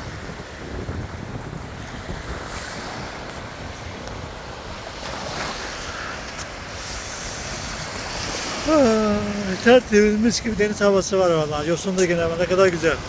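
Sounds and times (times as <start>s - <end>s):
waves washing over pebbles: 0.0s - 13.0s
wind on microphone: 0.0s - 13.0s.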